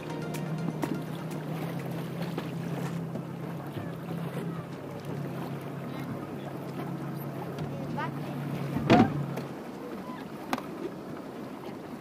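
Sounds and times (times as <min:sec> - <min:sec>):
outboard engine humming: 0:00.0 - 0:12.0
water washing past hull: 0:00.0 - 0:12.0.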